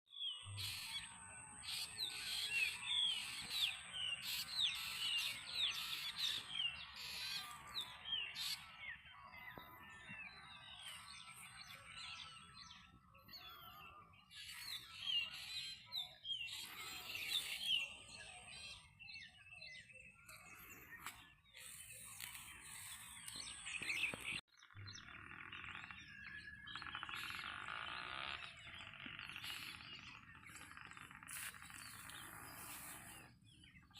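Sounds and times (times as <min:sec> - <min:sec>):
birds chirping in chorus: 0:00.1 - 0:33.9.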